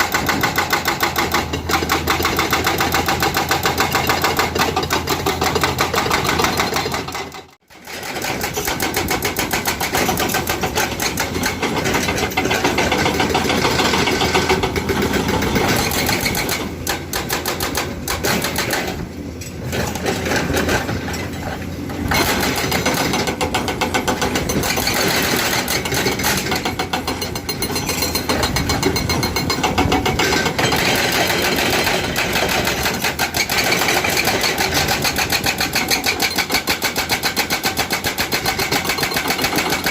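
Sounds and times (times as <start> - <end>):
excavator engine running: 0.0 - 39.9
hydraulic breaker hammering rock: 0.0 - 39.9.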